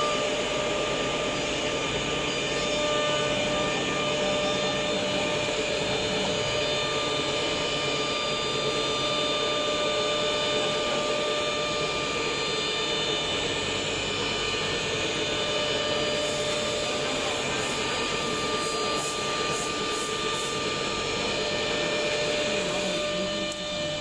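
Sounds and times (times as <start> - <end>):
cnc router machine drone: 0.0 - 24.0
constant whining tones: 0.0 - 24.0.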